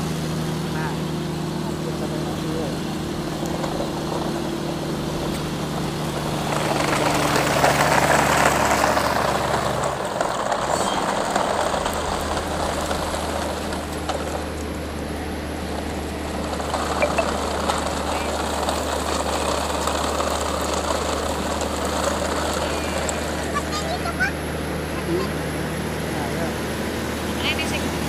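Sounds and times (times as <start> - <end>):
motor engine humming: 0.0 - 28.0.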